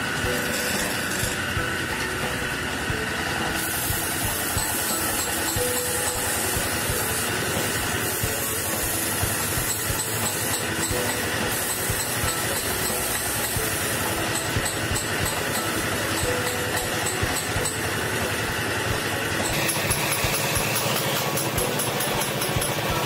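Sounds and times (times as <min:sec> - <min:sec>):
sandpaper hissing on spinning wood: 0:00.0 - 0:01.6, 0:03.5 - 0:23.0
wood lathe rattling: 0:00.0 - 0:23.0.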